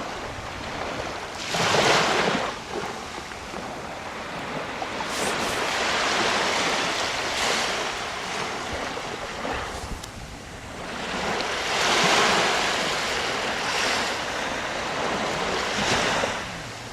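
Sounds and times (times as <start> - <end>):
sea waves breaking on beach: 0.0 - 16.9.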